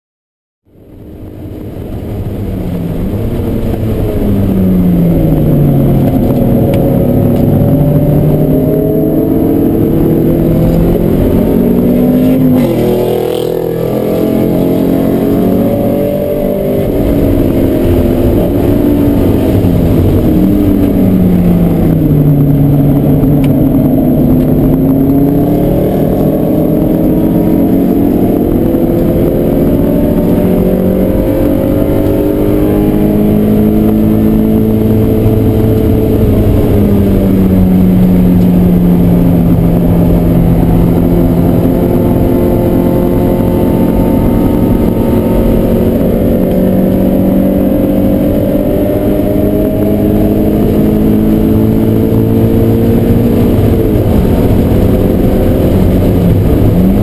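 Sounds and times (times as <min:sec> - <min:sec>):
car engine accelerating: 0:00.7 - 0:57.0.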